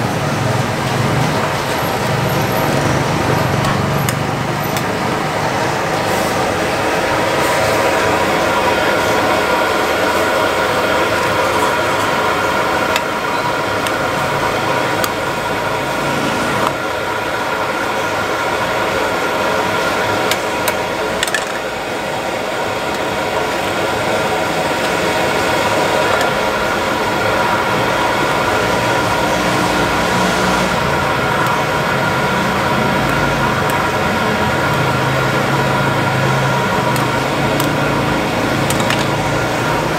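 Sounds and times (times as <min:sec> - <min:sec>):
gas burner flame rushing: 0:00.0 - 0:39.9.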